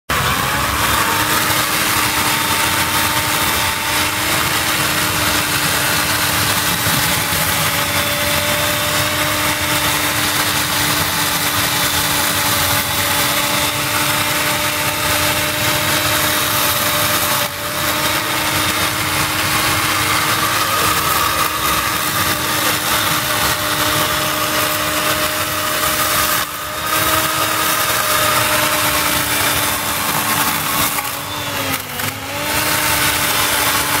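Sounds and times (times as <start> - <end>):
electric chainsaw cutting: 0.0 - 34.0.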